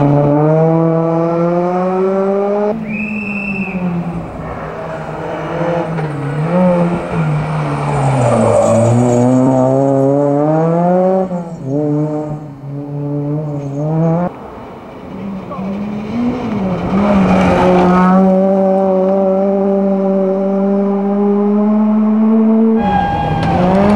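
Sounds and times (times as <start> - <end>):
rally car engine revving hard: 0.0 - 2.8, 4.8 - 14.3, 15.4 - 23.9
tyre and road noise: 0.0 - 23.9.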